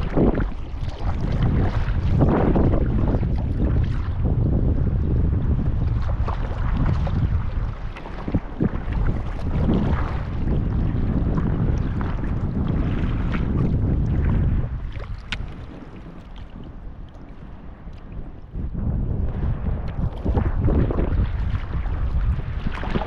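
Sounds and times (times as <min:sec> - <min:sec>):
water splashing around a kayak: 0:00.0 - 0:23.0
wind rumbling on microphone: 0:00.0 - 0:23.0.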